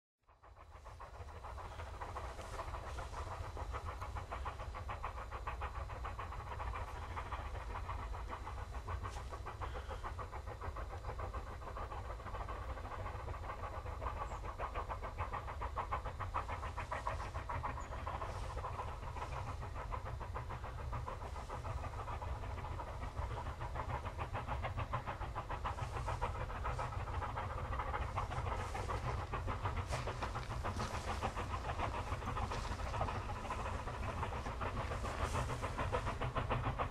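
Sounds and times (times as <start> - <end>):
steam locomotive chuffing: 0.2 - 36.9.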